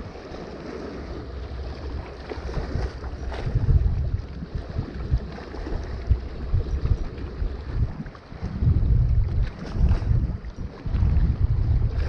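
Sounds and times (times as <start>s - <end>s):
small waves lapping at rocks: 0.0s - 12.0s
wind buffeting microphone: 0.0s - 12.0s.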